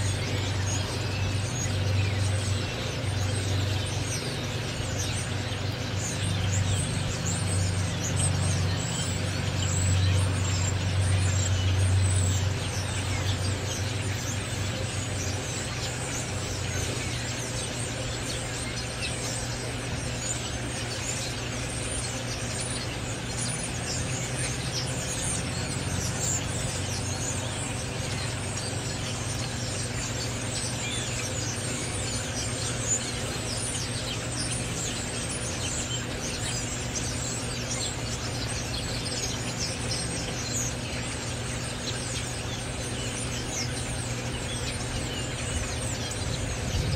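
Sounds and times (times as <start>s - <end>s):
flock of songbirds chattering: 0.0s - 46.9s
low engine hum: 0.0s - 46.9s.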